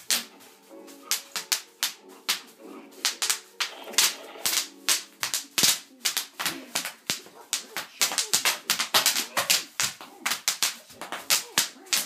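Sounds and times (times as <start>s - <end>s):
bubble wrap popping underfoot: 0.0s - 12.0s.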